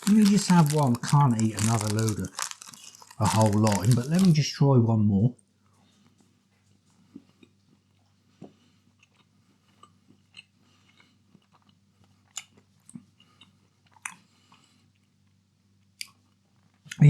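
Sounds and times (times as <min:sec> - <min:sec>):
person chewing: 0:00.0 - 0:04.4, 0:07.2 - 0:16.9.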